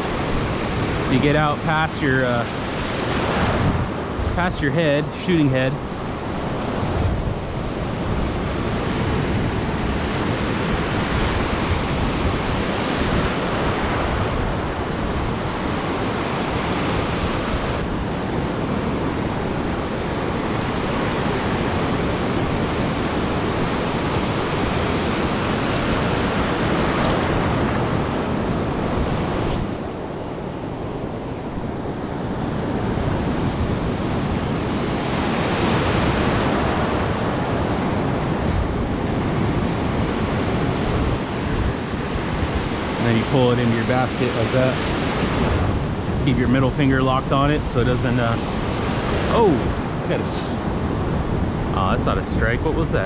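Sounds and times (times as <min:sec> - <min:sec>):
ocean surf breaking: 0:00.0 - 0:53.0
wind on microphone: 0:00.0 - 0:53.0.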